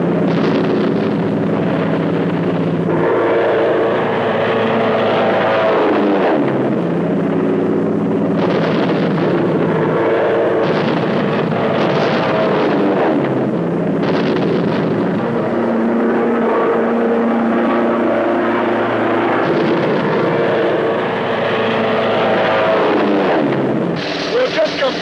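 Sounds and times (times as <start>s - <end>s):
aircraft engine in flight: 0.0s - 25.0s.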